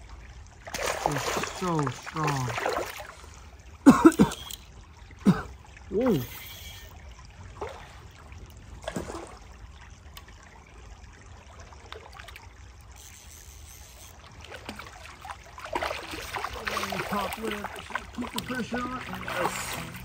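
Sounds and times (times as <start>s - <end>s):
river water flowing: 0.0s - 20.0s
splashing in water: 0.6s - 9.6s, 11.5s - 20.0s.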